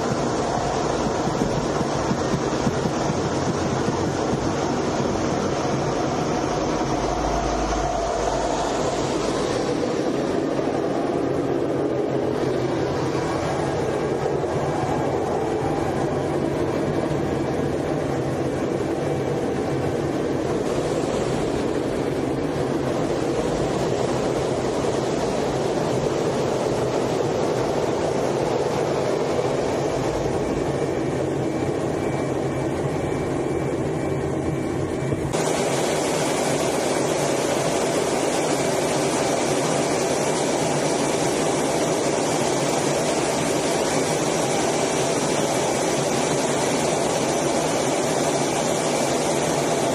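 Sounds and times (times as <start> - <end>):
jet engine and airflow rush: 0.0 - 49.9.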